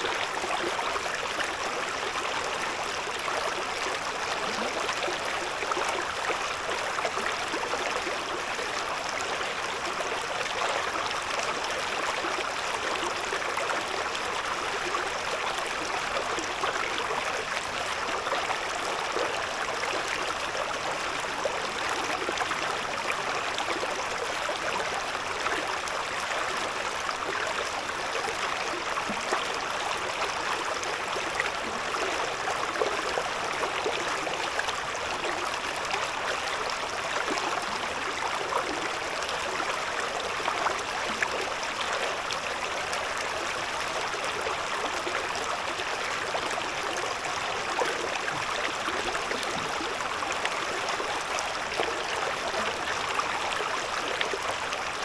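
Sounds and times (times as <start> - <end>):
river babbling over stones: 0.0 - 55.0.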